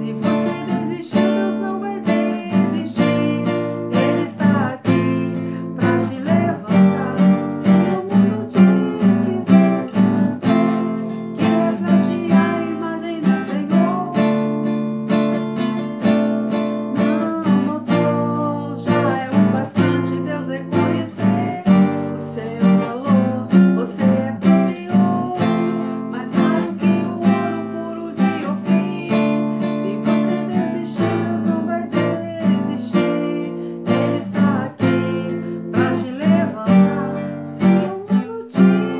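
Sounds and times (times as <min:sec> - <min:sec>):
acoustic guitar strumming chords: 0:00.0 - 0:38.9.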